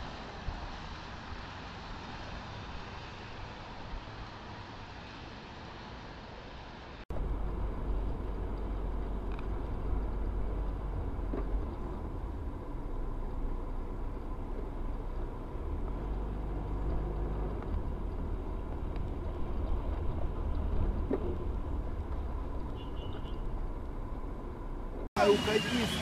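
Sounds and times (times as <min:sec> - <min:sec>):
car driving at highway speed: 0:00.0 - 0:26.0.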